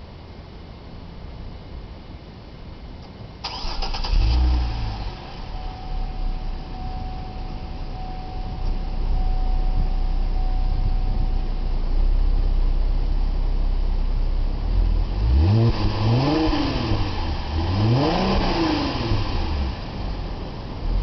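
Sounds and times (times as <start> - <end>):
car exhaust idling and revving: 0.0 - 21.0.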